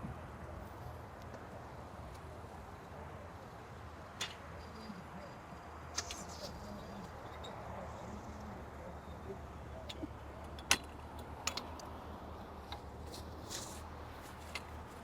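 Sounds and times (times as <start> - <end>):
low steady street hum: 0.0 - 15.0.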